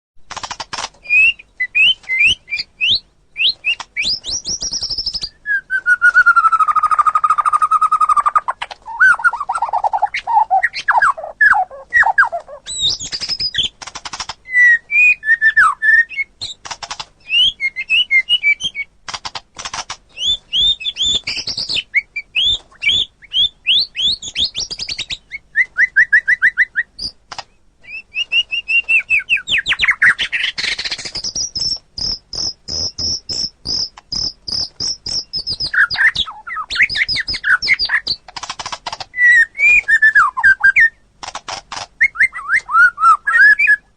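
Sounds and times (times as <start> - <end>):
bird singing whistles and trills: 1.0 - 13.7, 14.4 - 16.6, 17.2 - 18.9, 20.1 - 27.2, 27.8 - 38.2, 39.1 - 41.0, 42.0 - 43.9.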